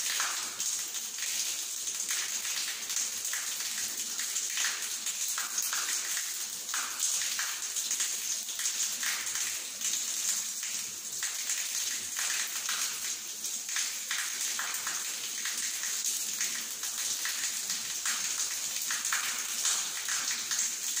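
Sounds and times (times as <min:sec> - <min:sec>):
shower water splashing on tiles: 0:00.0 - 0:21.0.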